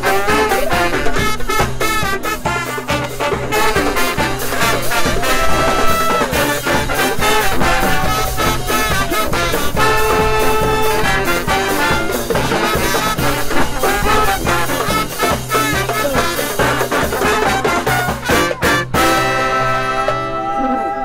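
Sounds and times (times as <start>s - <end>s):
drum kit beat: 0.0s - 20.7s
saxophones playing: 0.0s - 21.0s
sousaphone playing: 0.0s - 21.0s
trumpet playing: 0.0s - 21.0s.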